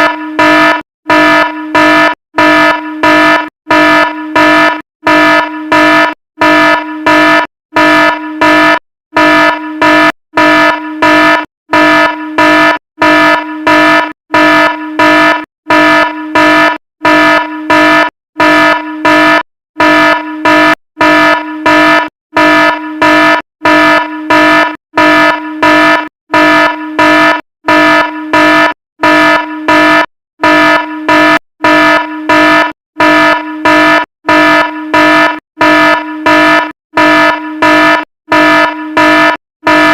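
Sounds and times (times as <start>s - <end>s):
fire alarm horn blasts: 0.0s - 39.9s.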